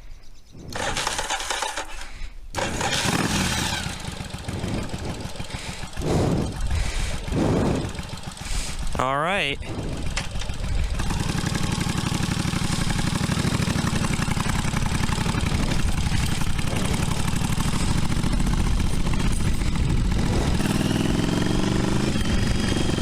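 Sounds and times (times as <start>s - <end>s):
motorcycle engine running: 2.6s - 23.0s.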